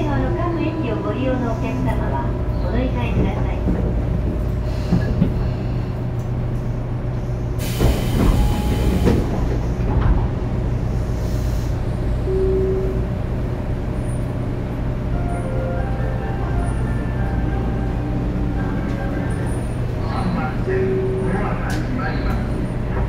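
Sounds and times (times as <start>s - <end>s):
train motor and wheel hum: 0.0s - 23.0s.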